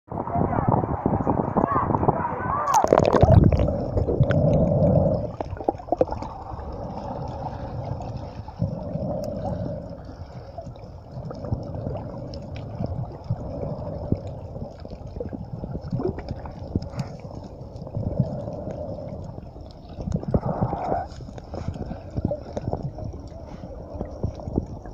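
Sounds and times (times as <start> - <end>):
underwater gurgling and sloshing: 0.1 - 24.9.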